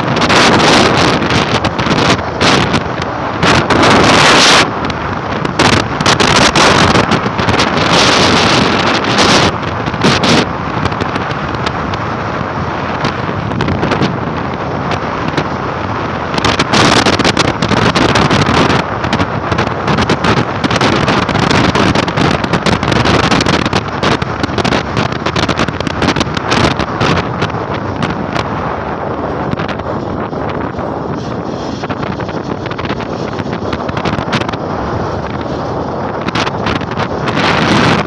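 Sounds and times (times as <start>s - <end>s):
motorcycle road noise: 0.0s - 38.0s
wind buffeting microphone: 0.0s - 38.0s.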